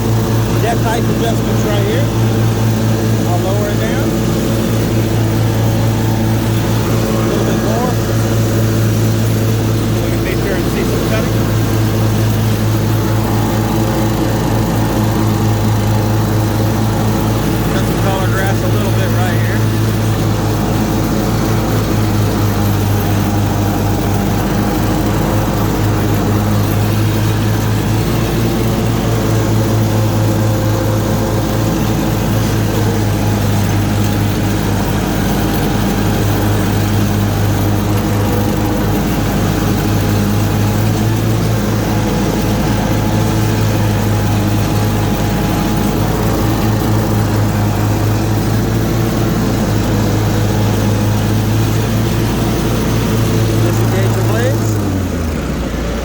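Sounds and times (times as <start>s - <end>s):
riding mower engine cutting grass: 0.0s - 56.0s.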